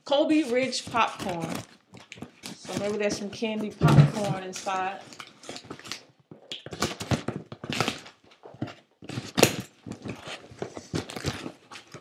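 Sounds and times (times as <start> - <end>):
cardboard package being unpacked: 0.0 - 12.0
sharp ripping: 0.1 - 12.0.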